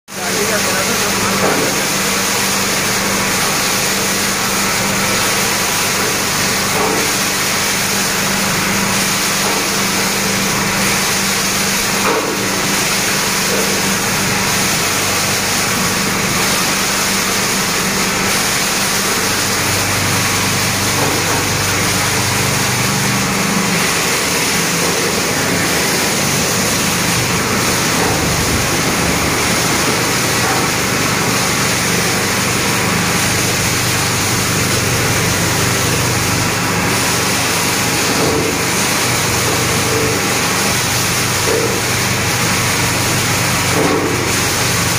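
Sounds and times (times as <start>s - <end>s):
washing machine churning plastic: 0.1s - 44.9s.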